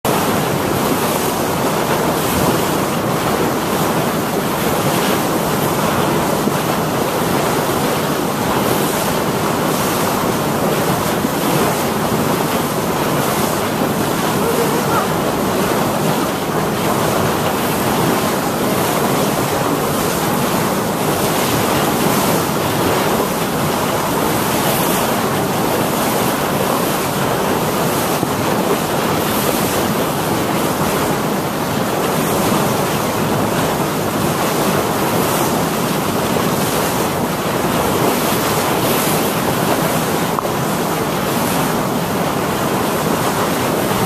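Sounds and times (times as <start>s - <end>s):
water rushing along boat hull: 0.0s - 44.0s.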